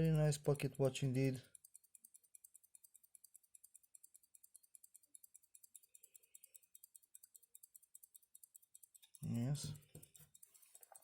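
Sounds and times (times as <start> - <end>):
pocket watch ticking: 0.0 - 11.0.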